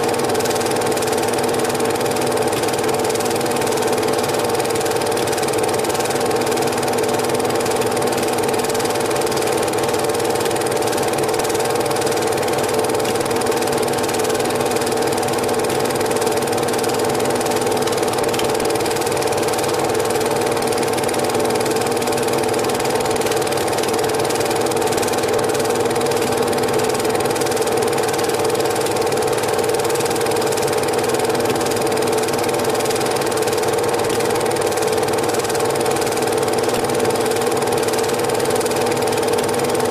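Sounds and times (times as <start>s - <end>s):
film projector whirring and clattering: 0.0s - 39.9s.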